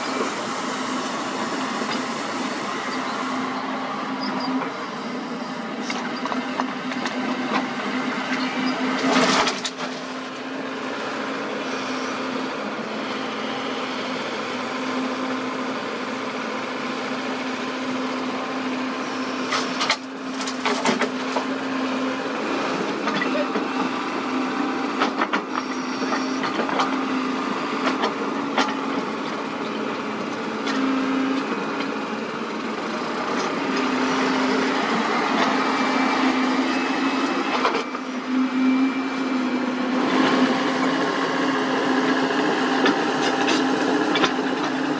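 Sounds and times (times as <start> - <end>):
excavator diesel engine humming: 0.0 - 44.9.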